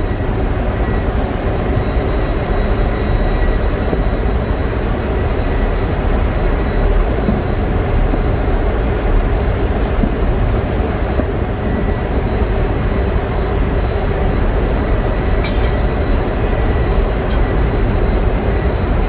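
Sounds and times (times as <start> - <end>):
generator engines droning: 0.0 - 19.0.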